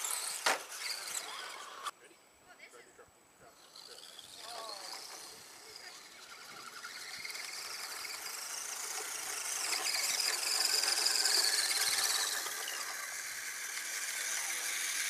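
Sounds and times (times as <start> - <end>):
electric motor and gear whine: 0.0 - 1.9, 3.6 - 15.0.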